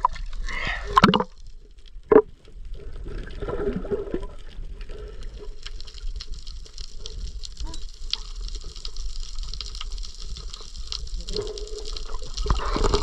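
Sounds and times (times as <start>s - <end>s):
water splashing and sloshing: 0.0s - 1.4s, 2.0s - 13.0s.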